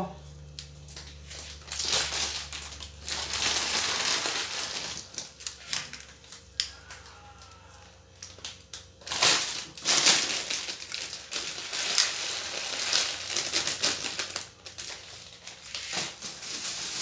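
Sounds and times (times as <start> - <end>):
plastic snack bag crinkling: 0.4 - 17.0
crisp sticks scattering: 0.9 - 6.7, 8.3 - 17.0.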